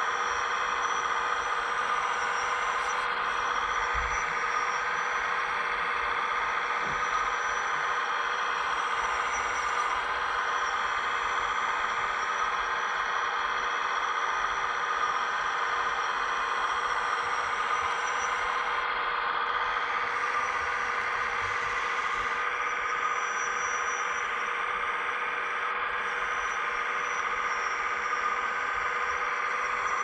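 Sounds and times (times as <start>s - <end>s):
hydraulic pump and motors whining: 0.0s - 30.0s.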